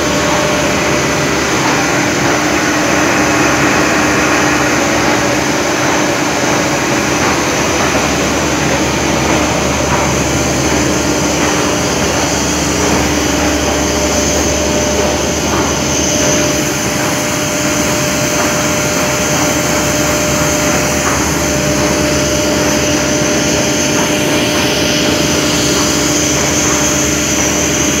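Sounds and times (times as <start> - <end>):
large cooling fans running: 0.0 - 28.0
plant machinery noise: 0.0 - 28.0.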